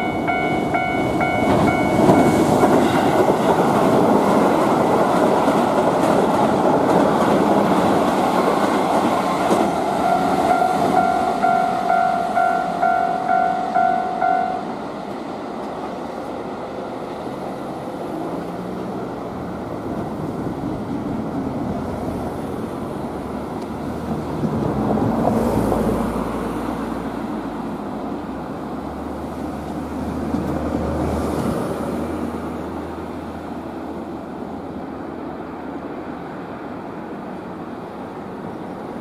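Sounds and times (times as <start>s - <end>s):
train rumbling over steel bridge: 0.0s - 39.0s.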